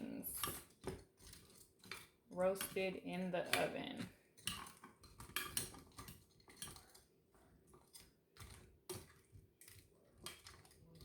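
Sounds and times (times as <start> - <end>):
utensil scraping a pan: 0.0 - 11.0.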